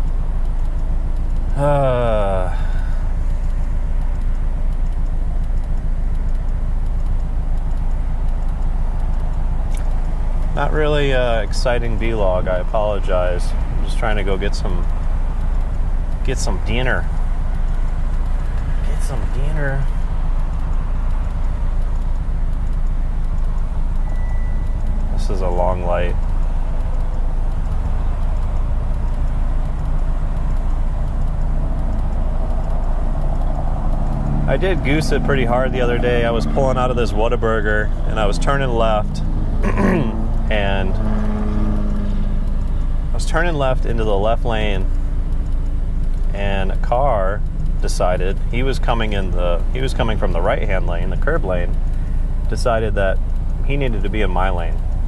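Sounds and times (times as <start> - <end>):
car engine droning from inside cabin: 0.0 - 55.0.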